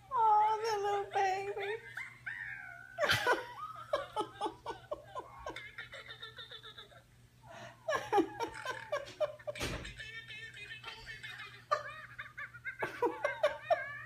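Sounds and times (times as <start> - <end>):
woman laughing: 0.8 - 14.0.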